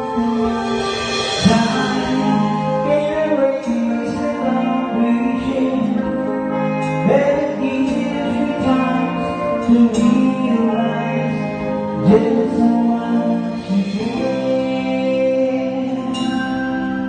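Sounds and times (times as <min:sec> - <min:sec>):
live band music through pa: 0:00.0 - 0:17.0.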